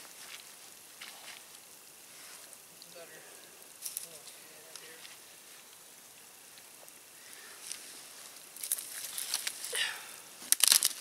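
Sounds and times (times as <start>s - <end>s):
rustling brush and cracking sticks: 0.0s - 11.0s.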